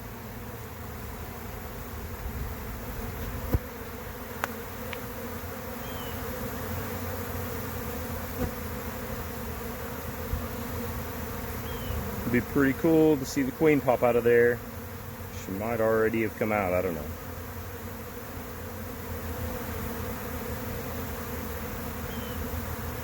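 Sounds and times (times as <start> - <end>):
bee swarm humming: 0.0 - 23.0.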